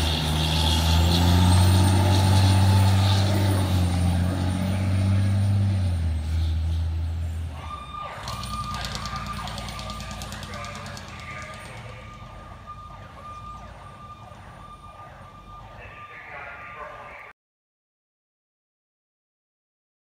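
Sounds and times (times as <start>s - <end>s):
diesel engine low rumble: 0.0s - 17.3s
fire truck siren: 0.0s - 17.3s.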